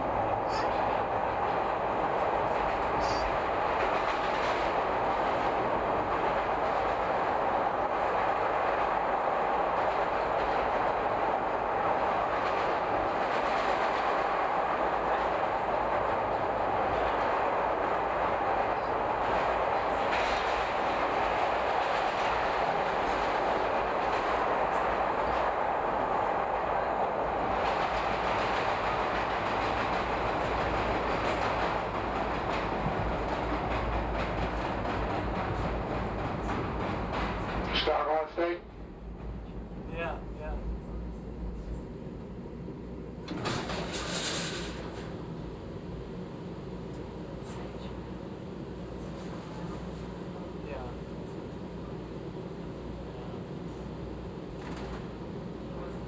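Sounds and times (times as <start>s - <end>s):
subway train wheels on rail: 0.0s - 56.0s.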